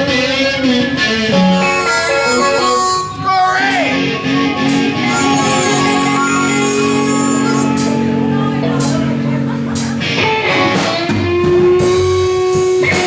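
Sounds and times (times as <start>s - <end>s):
blues band music: 0.0s - 13.0s
guitar bent note: 1.4s - 11.9s.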